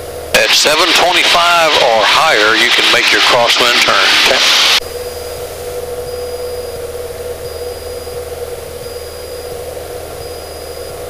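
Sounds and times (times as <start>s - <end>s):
small plane engine droning: 0.0s - 11.0s.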